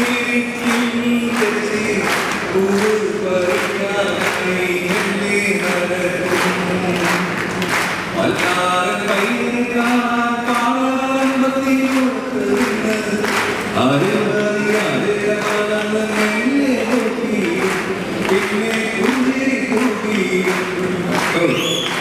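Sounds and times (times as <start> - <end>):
man singing unaccompanied: 0.0 - 21.6.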